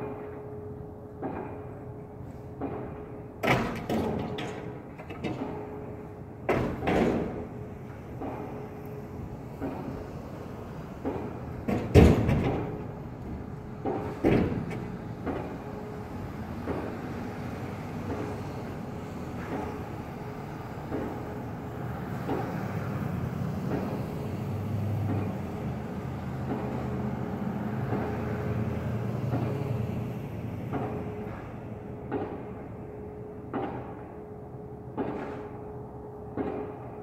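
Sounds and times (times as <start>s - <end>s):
traffic rumbling: 0.0s - 37.0s.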